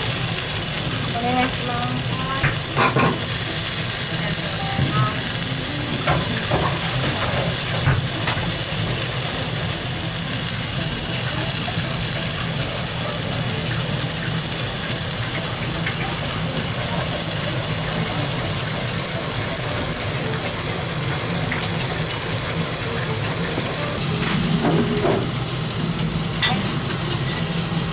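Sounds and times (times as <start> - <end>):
meat sizzling in oil: 0.0 - 27.9.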